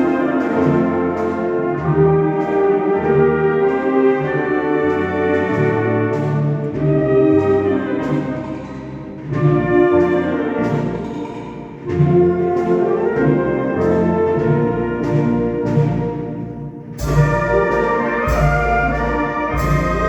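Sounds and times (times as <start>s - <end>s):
wind band playing a slow march: 0.0s - 20.0s.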